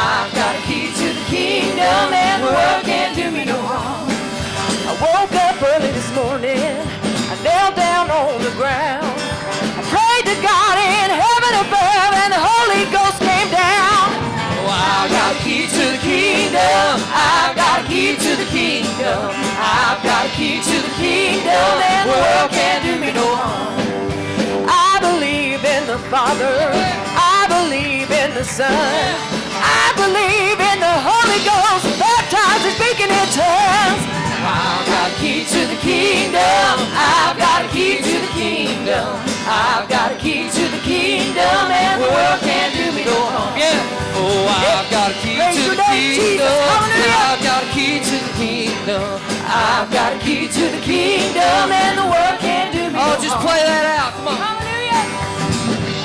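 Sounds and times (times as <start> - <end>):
singers singing: 0.0 - 55.3
church band playing: 0.0 - 56.0.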